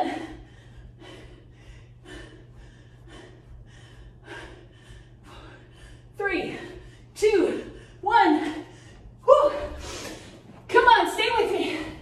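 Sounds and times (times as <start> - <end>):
woman breathing hard: 0.0 - 10.6
faint low hum: 0.0 - 12.0.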